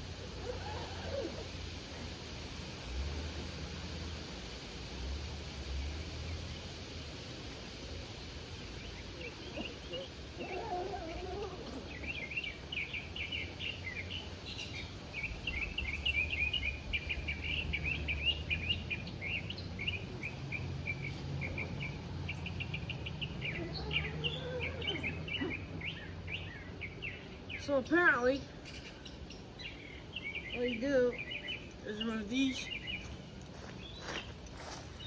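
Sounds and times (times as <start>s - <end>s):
small birds chirping: 5.8s - 35.0s.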